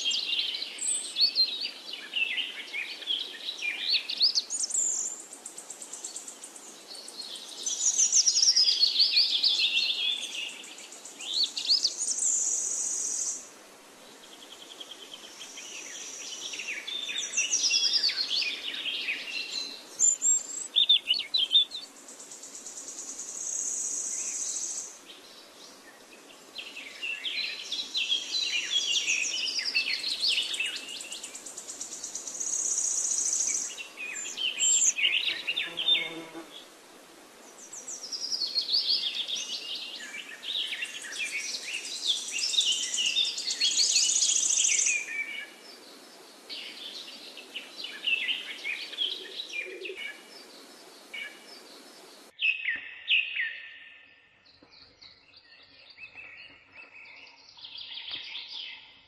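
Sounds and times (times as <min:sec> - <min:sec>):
birdsong chirps and trills: 0:00.0 - 0:13.5, 0:14.1 - 0:36.7, 0:37.4 - 0:59.0.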